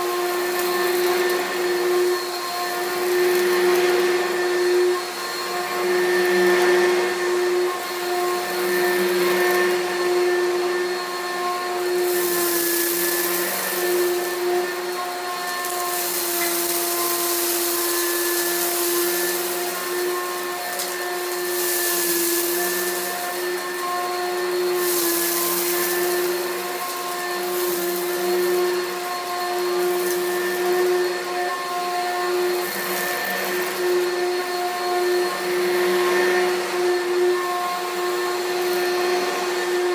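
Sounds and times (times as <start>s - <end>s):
high hiss of vacuum suction: 0.0s - 39.9s
vacuum cleaner motor whine: 0.0s - 39.9s.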